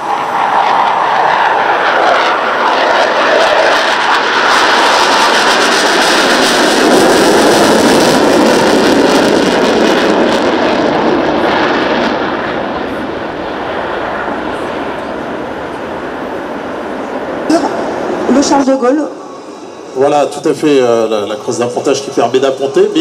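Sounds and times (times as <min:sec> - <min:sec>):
jets flying past: 0:00.0 - 0:23.0.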